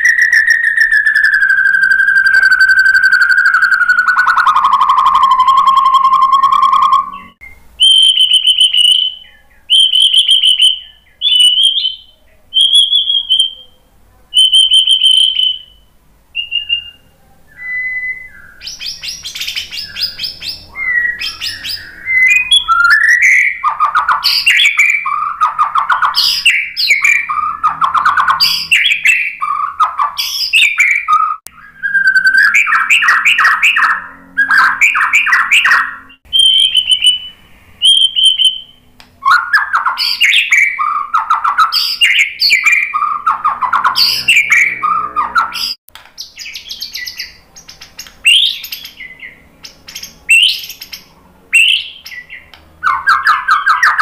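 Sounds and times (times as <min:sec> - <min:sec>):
bird singing whistles and trills: 0:00.0 - 0:13.8, 0:14.4 - 0:54.0.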